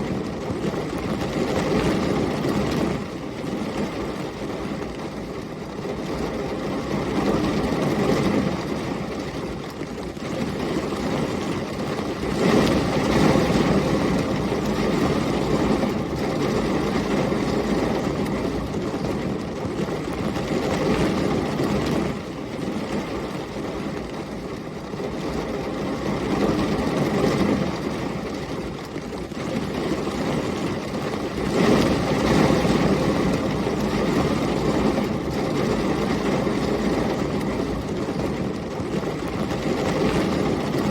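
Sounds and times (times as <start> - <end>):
heavy rain pouring: 0.0 - 40.9
low rumbling storm noise: 0.0 - 40.9.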